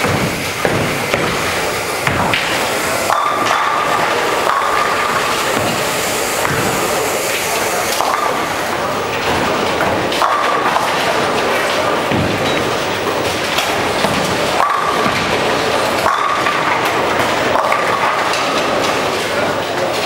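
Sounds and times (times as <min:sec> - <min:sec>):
balls striking pins: 0:00.0 - 0:20.0
bowling balls rumbling down lanes: 0:00.0 - 0:20.0
voices of players: 0:01.6 - 0:20.0.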